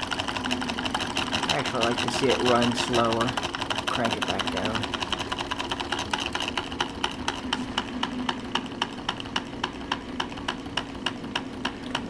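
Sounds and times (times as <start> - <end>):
stirling engine rods clicking: 0.0 - 12.0.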